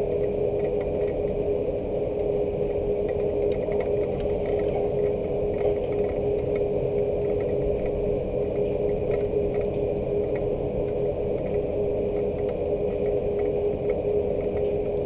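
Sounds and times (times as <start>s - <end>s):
low mechanical hum: 0.0s - 15.0s
rain dripping and tapping: 0.2s - 1.4s, 3.0s - 8.0s, 8.6s - 15.0s.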